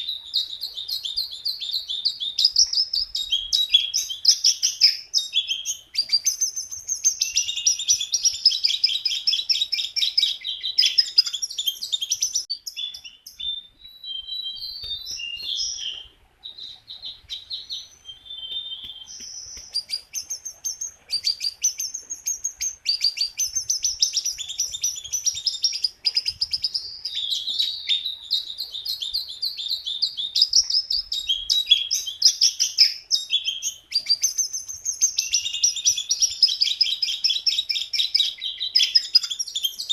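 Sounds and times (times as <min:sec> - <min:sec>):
songbird singing fast chattering song: 0:00.0 - 0:39.9.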